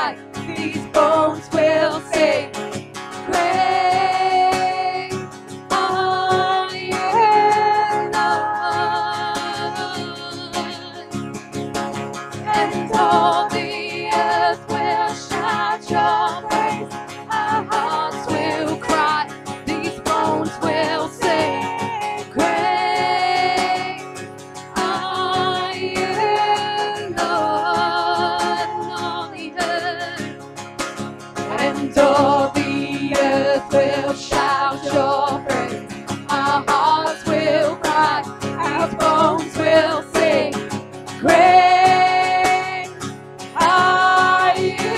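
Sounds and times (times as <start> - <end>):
women singing: 0.0 - 11.2, 12.4 - 30.4, 31.4 - 44.9
acoustic guitar: 0.0 - 44.9.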